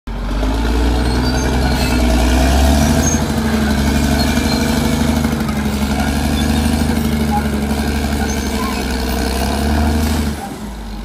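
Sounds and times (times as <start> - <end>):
bulldozer diesel engine running: 0.1 - 11.0.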